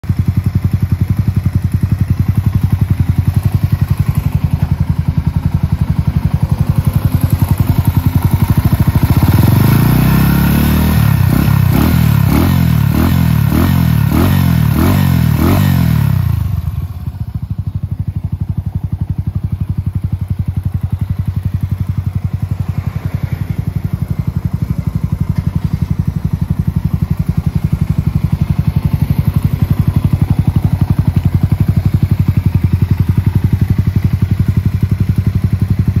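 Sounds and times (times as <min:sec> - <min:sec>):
motorcycle engine revving and idling: 0:00.0 - 0:36.0.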